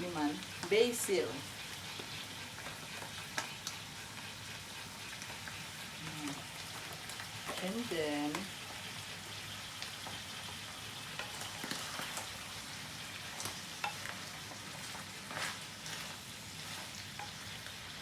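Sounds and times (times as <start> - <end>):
peppers sizzling in a pan: 0.0 - 18.0.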